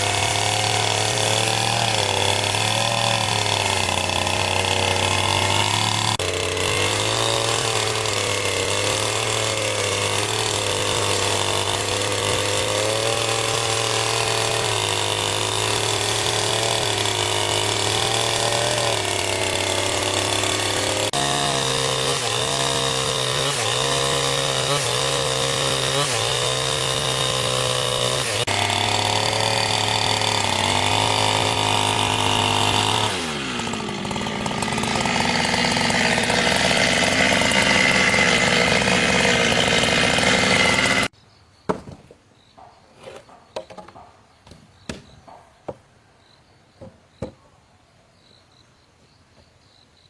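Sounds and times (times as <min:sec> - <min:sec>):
chainsaw running: 0:00.0 - 0:41.2.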